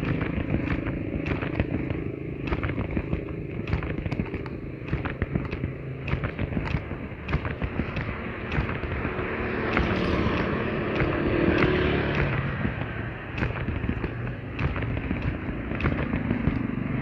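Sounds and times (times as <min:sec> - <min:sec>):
sharp clicks: 0:00.0 - 0:17.0
steady background noise: 0:00.0 - 0:17.0
vehicle engine passing by: 0:00.0 - 0:17.0.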